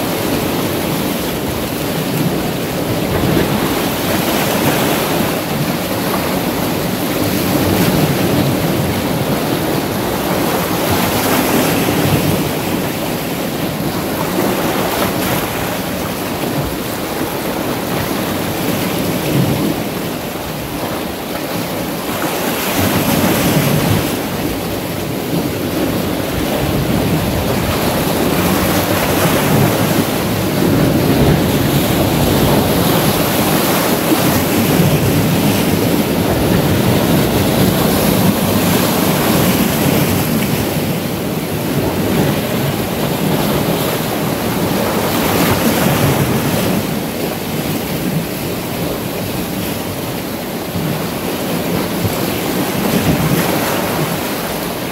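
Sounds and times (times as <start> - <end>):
waves breaking on boulders: 0.0 - 54.9.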